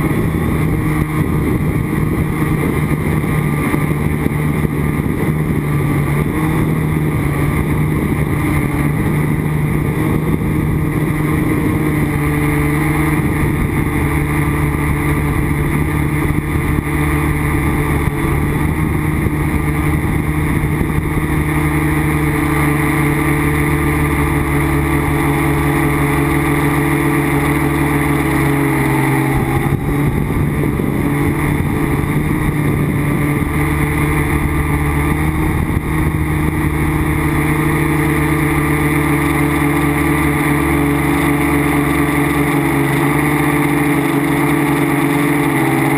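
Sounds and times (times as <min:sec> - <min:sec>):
quadcopter motors buzzing: 0:00.0 - 0:45.9.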